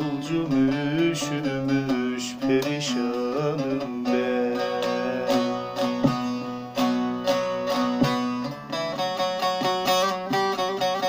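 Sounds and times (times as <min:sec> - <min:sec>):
plucked lute melody: 0:00.0 - 0:11.0.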